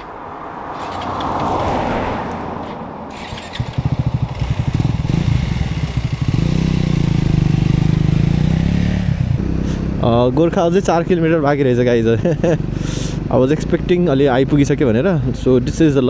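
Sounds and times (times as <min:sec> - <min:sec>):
motorcycle engine running: 0:03.1 - 0:16.0.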